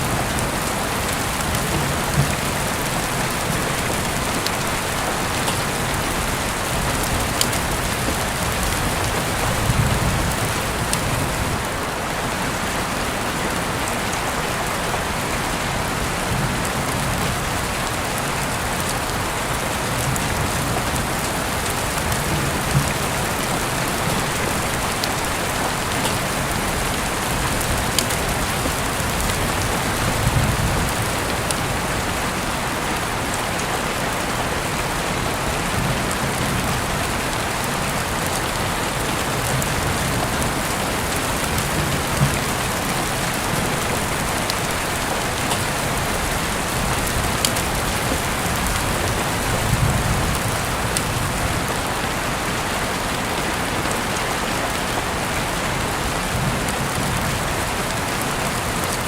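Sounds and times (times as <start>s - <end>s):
heavy rain falling: 0.0s - 59.0s
sharp ticks of raindrops: 0.0s - 59.0s.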